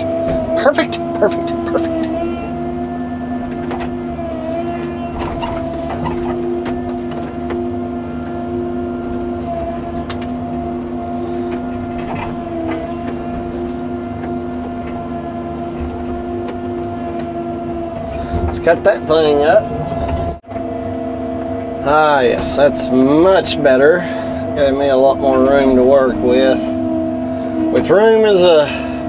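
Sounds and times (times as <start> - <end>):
excavator engine and hydraulics: 0.0 - 29.0
hydraulic whine: 0.0 - 29.0.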